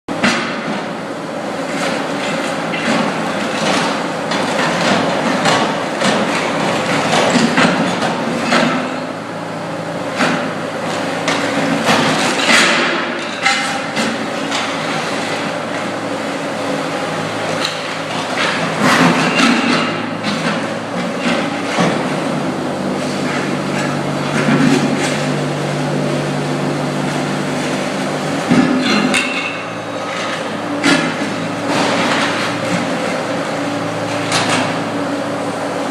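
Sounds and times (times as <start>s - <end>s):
diesel engine drone: 0.1s - 35.9s.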